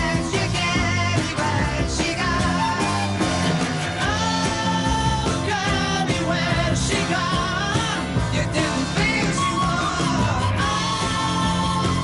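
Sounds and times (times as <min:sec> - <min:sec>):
pop band playing: 0:00.0 - 0:12.0.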